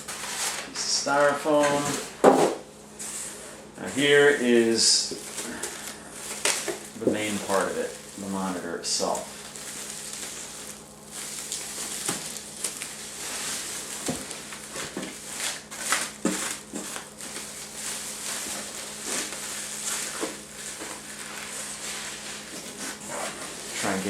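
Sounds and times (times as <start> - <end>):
styrofoam and plastic crackling: 0.0 - 3.2, 3.9 - 24.0.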